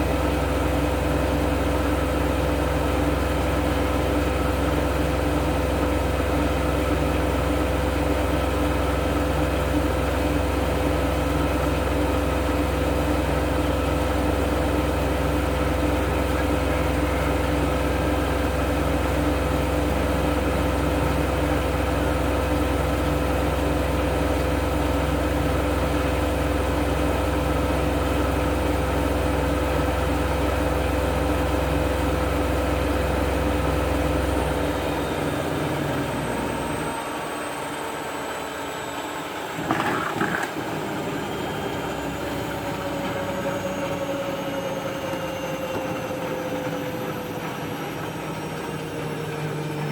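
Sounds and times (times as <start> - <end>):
motor whine: 0.0 - 49.9
washing machine spinning: 0.0 - 49.9.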